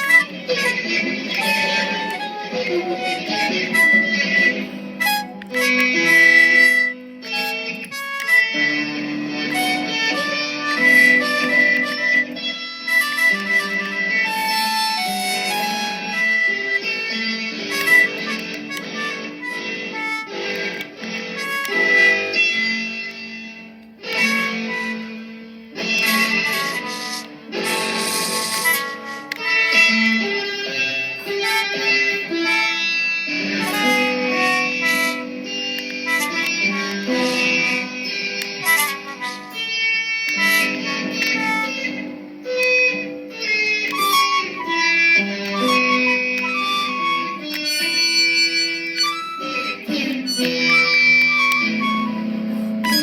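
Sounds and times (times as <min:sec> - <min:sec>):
guitar music with held notes: 0:00.0 - 0:53.0.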